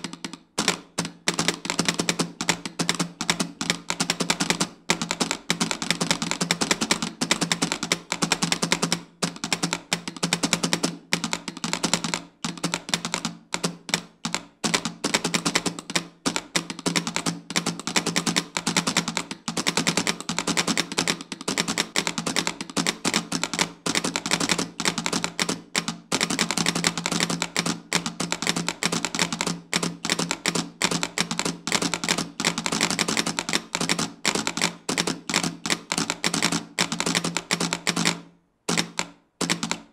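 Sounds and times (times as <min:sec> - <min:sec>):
telegraph keys clicking: 0:00.0 - 0:39.9.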